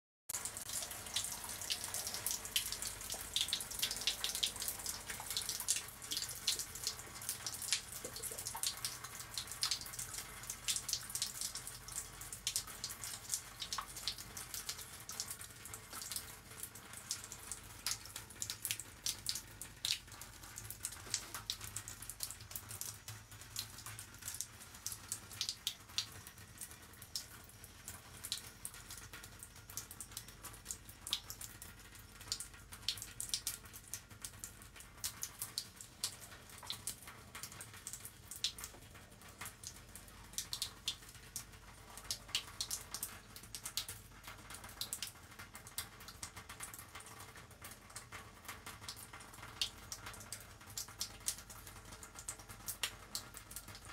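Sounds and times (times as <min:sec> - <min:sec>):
water dripping and trickling: 0:00.3 - 0:53.9.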